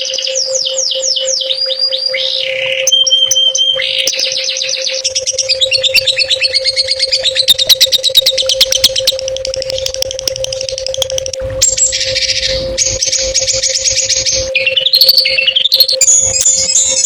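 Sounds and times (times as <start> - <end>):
songbird singing trills: 0.0 - 17.0
steady low hum: 0.0 - 17.0.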